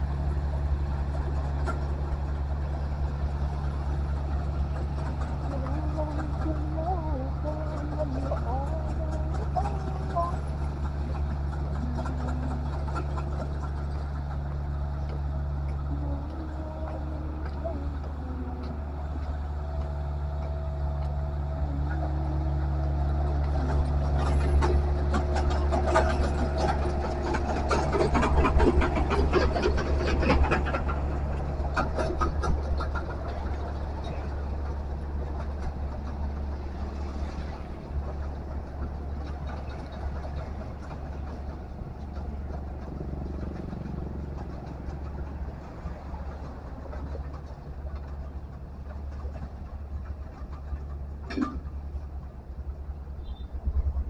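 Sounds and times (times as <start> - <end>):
heavy machine engine running: 0.0 - 54.0.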